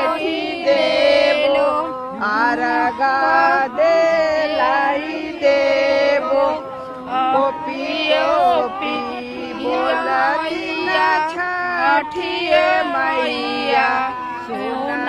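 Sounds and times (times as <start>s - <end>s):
voices singing folk song: 0.0s - 15.0s.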